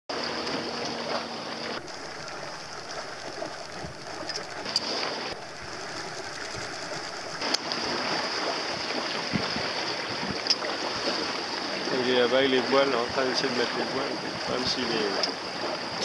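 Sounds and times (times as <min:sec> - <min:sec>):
water rushing along a hull: 0:00.1 - 0:16.0.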